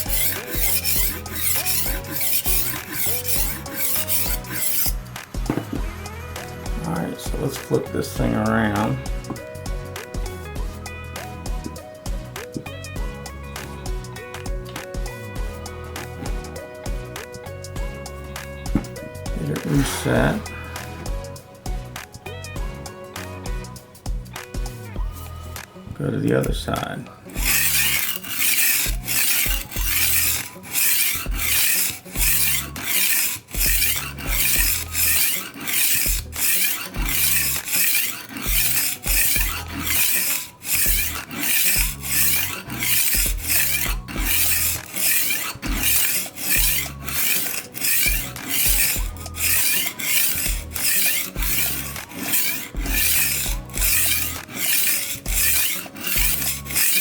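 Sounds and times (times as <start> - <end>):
knife sharpener grinding: 0.0 - 22.0, 26.3 - 57.0.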